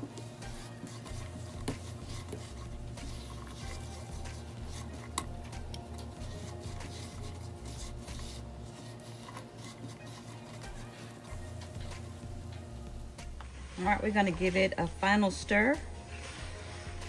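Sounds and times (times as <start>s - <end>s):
glaze bubbling and sizzling: 0.0s - 17.0s
spatula scraping a pan: 0.0s - 17.0s.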